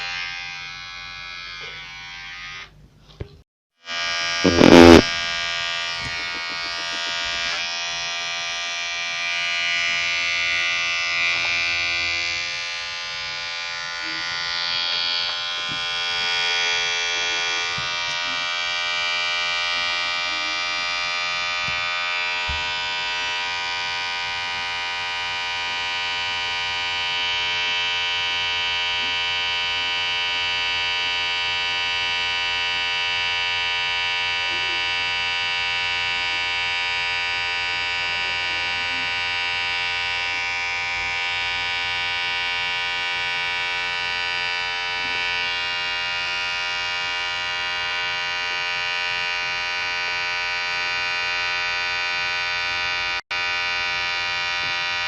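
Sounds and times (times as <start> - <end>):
electric hair clipper buzzing: 0.0 - 2.8, 3.8 - 55.0.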